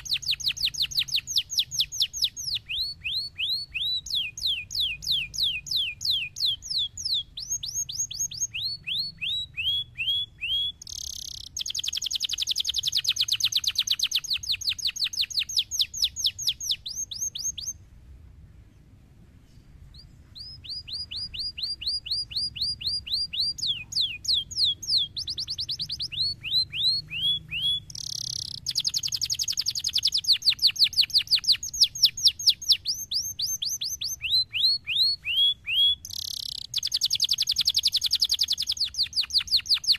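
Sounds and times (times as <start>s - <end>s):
canary singing trills: 0.0s - 17.8s, 19.5s - 39.9s.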